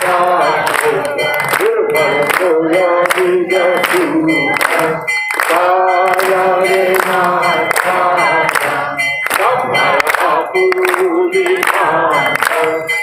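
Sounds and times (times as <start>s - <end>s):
devotional singing: 0.0s - 13.0s.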